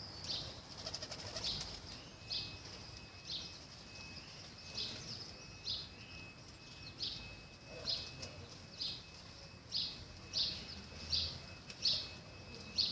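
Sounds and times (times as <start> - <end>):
bird calling: 0.0 - 12.9
thin steady high tone: 0.0 - 12.9.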